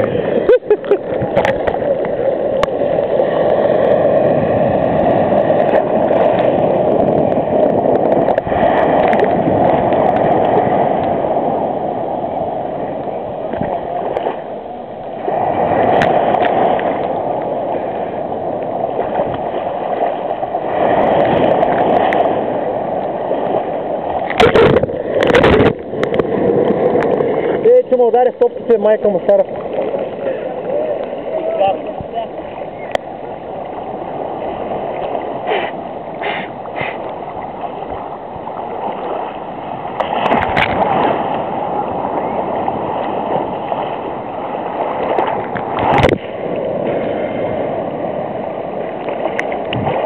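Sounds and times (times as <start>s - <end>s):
sea water sloshing and gurgling: 0.0s - 50.0s.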